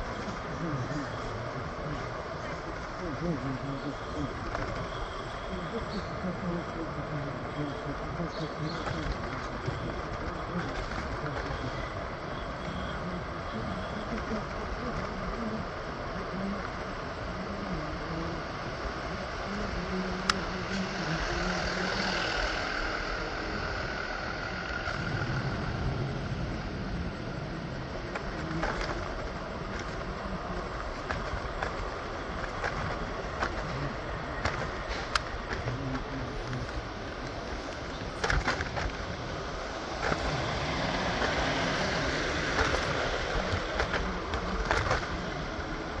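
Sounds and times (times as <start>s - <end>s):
city traffic noise: 0.0s - 46.0s
faint high whine: 0.0s - 46.0s.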